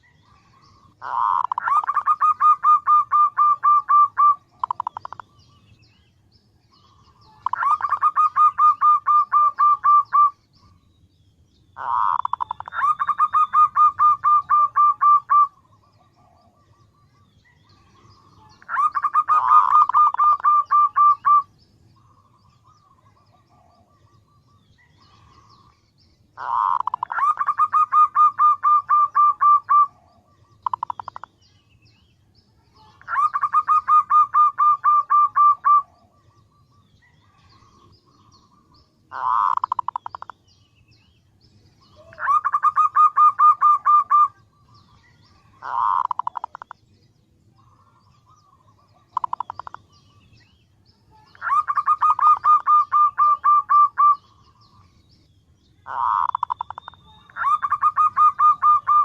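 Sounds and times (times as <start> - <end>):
dove cooing trills: 0.0 - 5.7, 6.7 - 10.9, 11.8 - 31.5, 32.7 - 40.5, 41.8 - 50.2, 51.0 - 54.9, 55.8 - 59.0.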